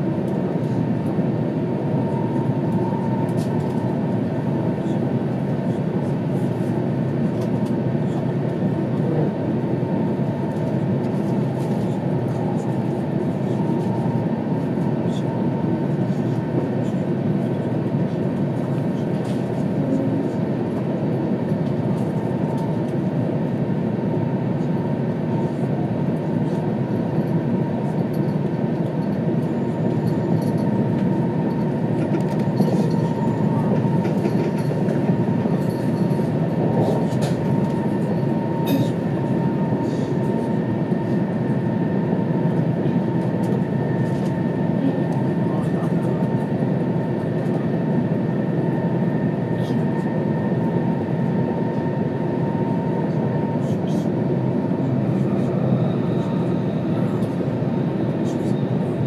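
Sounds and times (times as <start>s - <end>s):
train cabin ride rumble: 0.0s - 59.0s.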